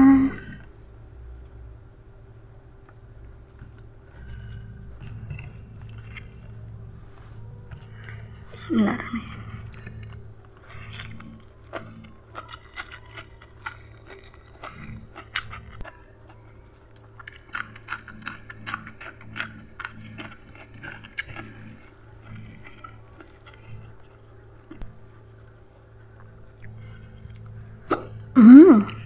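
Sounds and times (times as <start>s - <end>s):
faint low hum: 0.0s - 29.0s
person chewing crunchy food: 2.8s - 29.0s.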